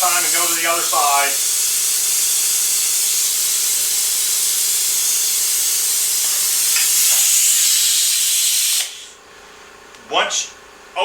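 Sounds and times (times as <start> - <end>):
compressed air hissing: 0.0 - 9.2.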